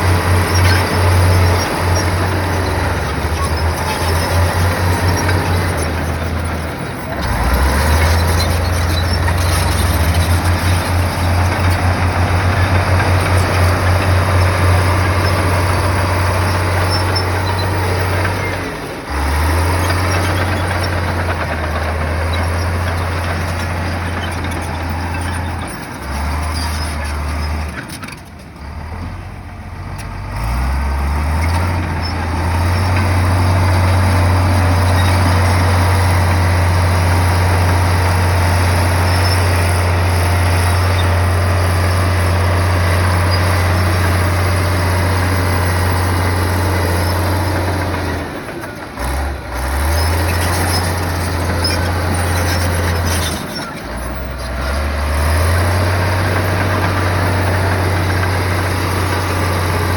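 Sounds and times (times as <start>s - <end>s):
bulldozer diesel engine rumbling: 0.0s - 59.9s.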